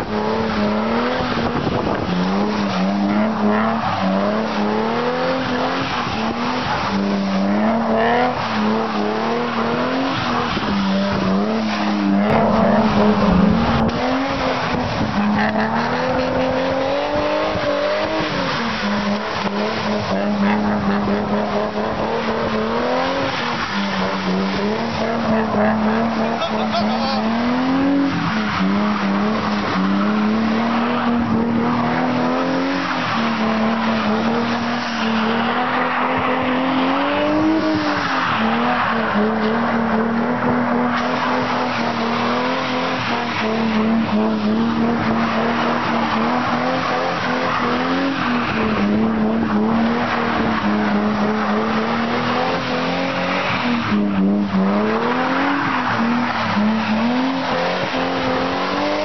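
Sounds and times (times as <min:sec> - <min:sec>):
car engine at high revs: 0:00.0 - 0:59.0
tyres squealing on wet road: 0:00.0 - 0:59.0.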